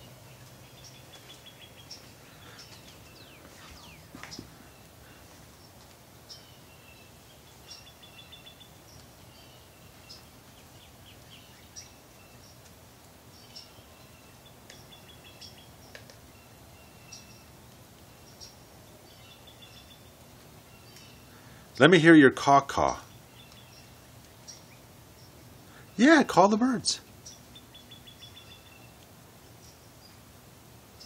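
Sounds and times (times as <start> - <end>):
low outdoor hum: 0.0 - 31.0
songbirds chirping: 0.0 - 31.0.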